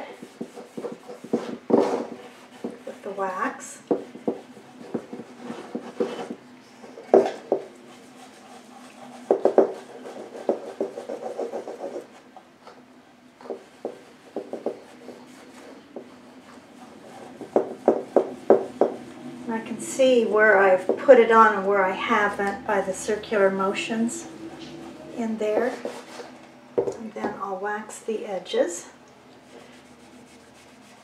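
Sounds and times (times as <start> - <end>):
cloth rubbing on wood panel: 0.1 - 12.3, 13.4 - 26.4, 29.5 - 31.0.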